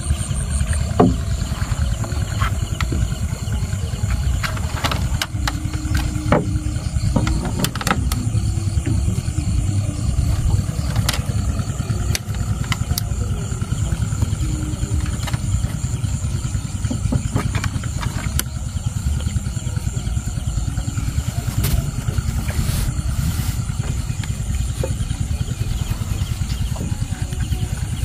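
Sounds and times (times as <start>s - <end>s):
small engine throbbing: 0.0s - 28.0s.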